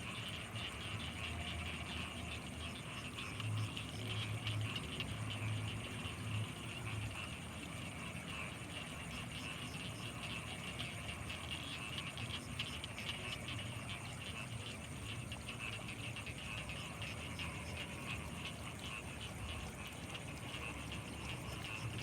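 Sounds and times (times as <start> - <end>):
frogs calling: 0.0 - 22.0
high insect trill: 0.0 - 22.0.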